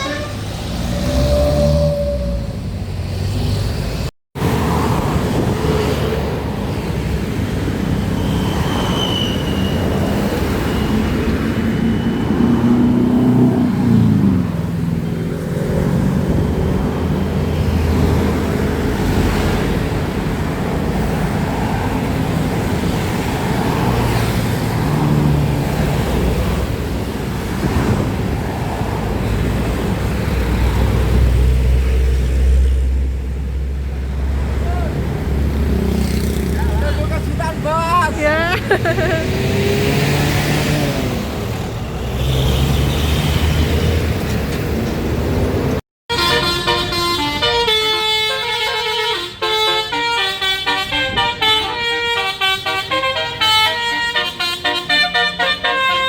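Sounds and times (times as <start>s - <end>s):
passing traffic: 0.0s - 56.0s.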